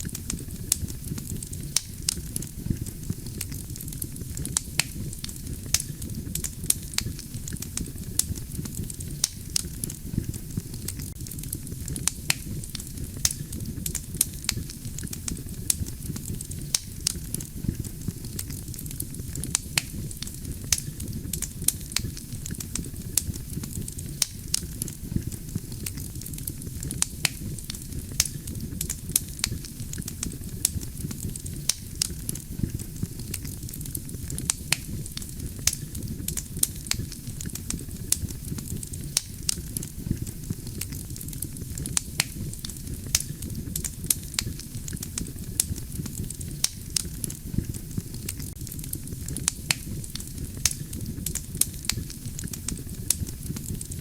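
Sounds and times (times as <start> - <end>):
crackles and pops of burning logs: 0.0 - 54.0
rumble of flames: 0.0 - 54.0.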